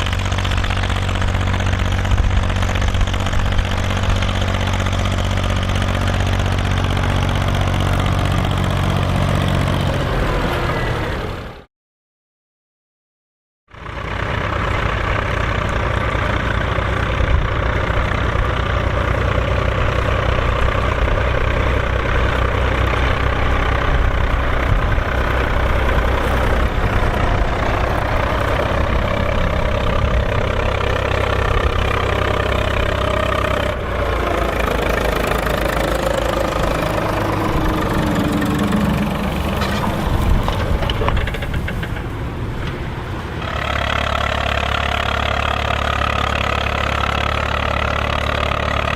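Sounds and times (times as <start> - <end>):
tractor diesel engine running: 0.0 - 11.7, 13.7 - 48.9.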